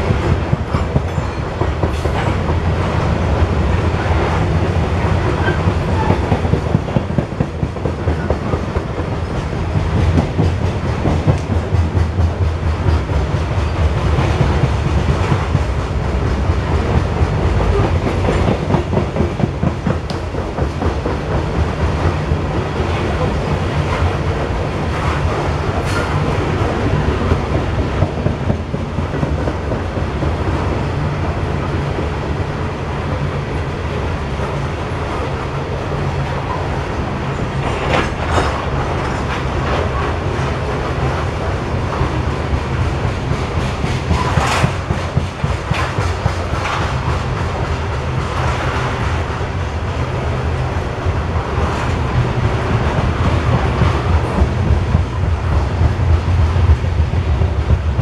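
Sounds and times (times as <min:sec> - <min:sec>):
clickety-clack over rail joints: 0:00.0 - 0:58.0
freight train wheels rumbling on rails: 0:00.0 - 0:58.0.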